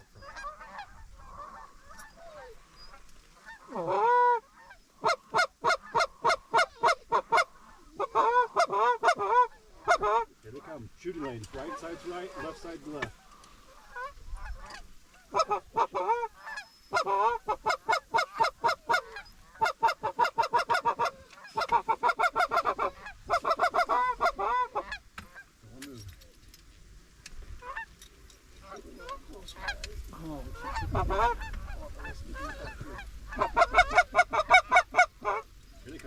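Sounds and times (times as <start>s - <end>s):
goose honks and clucks: 0.0s - 25.5s, 27.6s - 28.0s, 28.6s - 36.0s.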